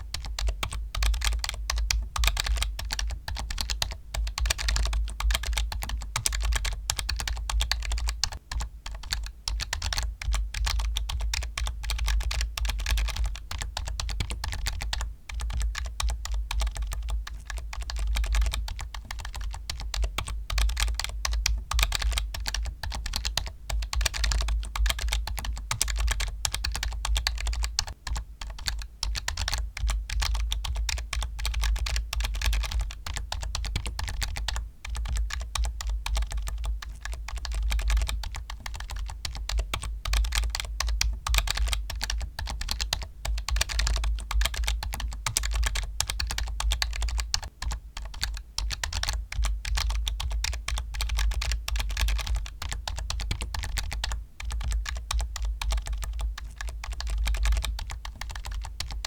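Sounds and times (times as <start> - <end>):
typing on a computer keyboard: 0.0 - 59.0.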